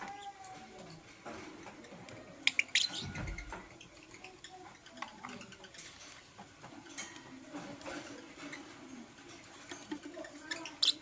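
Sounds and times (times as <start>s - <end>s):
soft ticks of birds moving: 0.0s - 11.0s.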